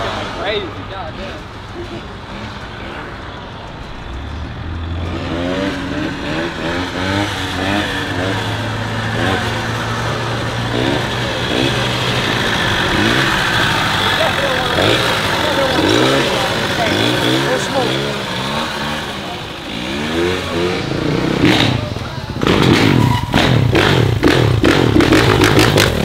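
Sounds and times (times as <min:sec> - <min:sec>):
quad engine revving: 0:04.2 - 0:26.0.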